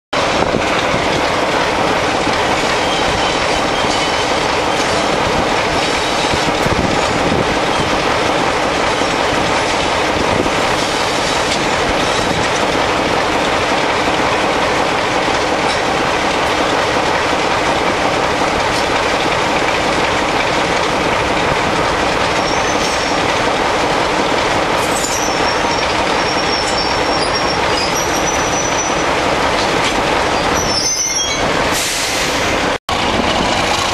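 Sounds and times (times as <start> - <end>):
diesel locomotive engines thrashing: 0.2 - 33.9.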